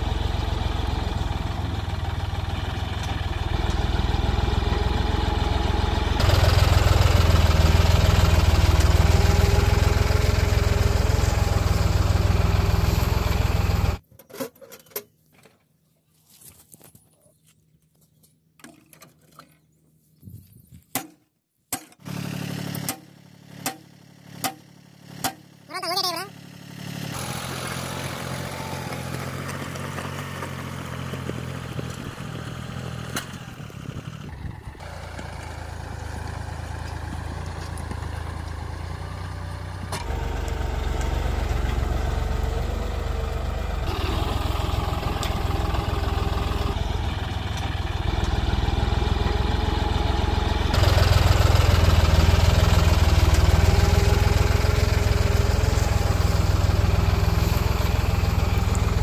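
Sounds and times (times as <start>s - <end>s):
tractor diesel engine running: 0.0s - 14.0s, 22.0s - 59.0s.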